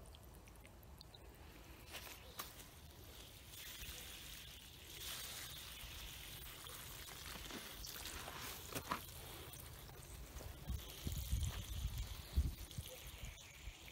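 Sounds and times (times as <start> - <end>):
water pouring into soil: 0.0 - 13.9.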